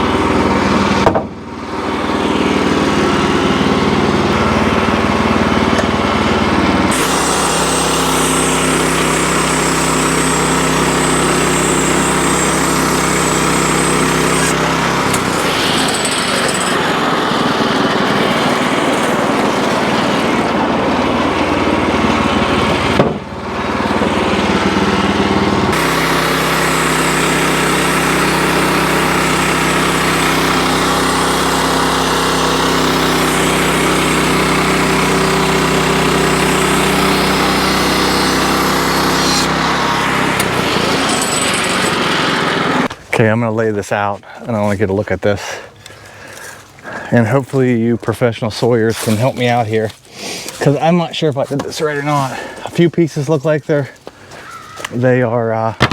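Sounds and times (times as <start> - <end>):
band sawmill sawing wood: 0.0 - 55.9.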